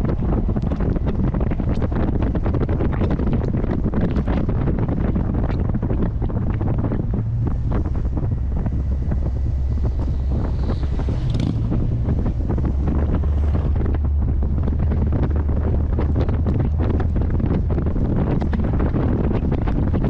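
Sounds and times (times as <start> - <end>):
car engine drone: 0.0 - 20.0
wind buffeting microphone: 0.0 - 20.0.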